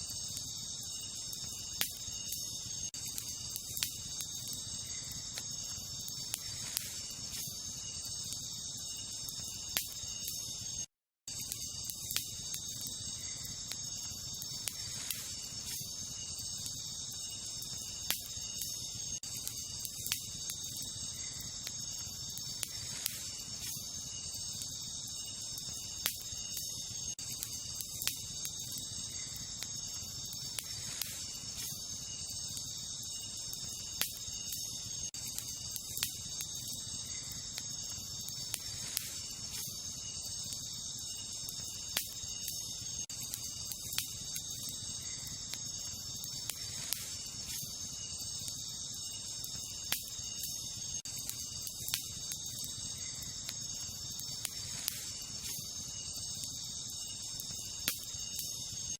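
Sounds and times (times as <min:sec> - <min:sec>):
campfire crackling and popping: 0:00.0 - 0:58.9
crickets chirping: 0:00.0 - 0:58.9.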